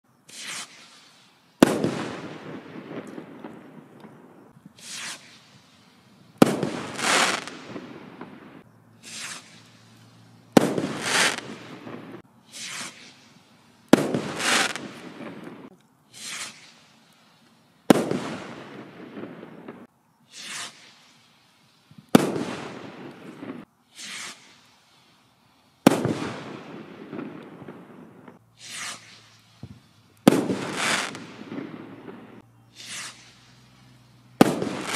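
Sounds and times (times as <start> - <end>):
firework hiss: 0.1 - 34.9
firework rockets bursting: 0.1 - 34.9.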